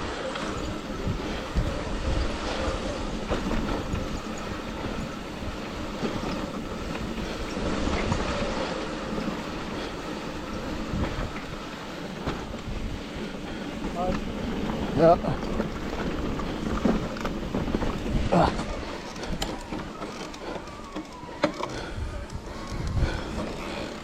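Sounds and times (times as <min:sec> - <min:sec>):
bike rattling over dirt trail: 0:00.0 - 0:24.0.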